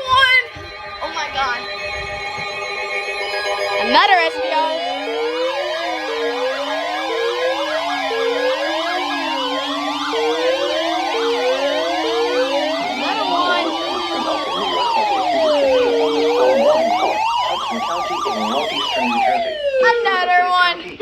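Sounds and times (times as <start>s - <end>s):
steady siren tone: 0.0s - 21.0s
wailing sirens: 0.0s - 21.0s
yelping sirens: 0.0s - 21.0s.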